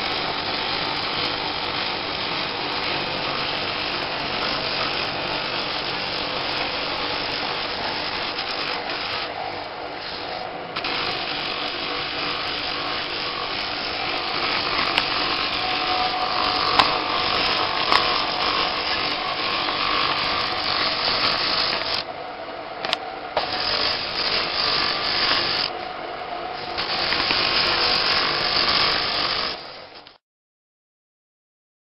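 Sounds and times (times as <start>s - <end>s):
power tool grinding stone: 0.0s - 22.1s, 22.9s - 25.9s, 26.5s - 30.2s
faint motor hum: 0.0s - 30.2s.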